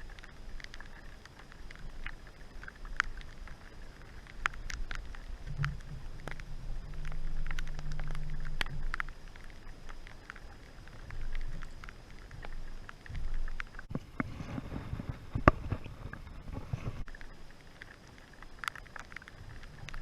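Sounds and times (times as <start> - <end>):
raindrops tapping: 0.0 - 14.7, 15.3 - 20.0
low muffled rumble: 0.0 - 17.7.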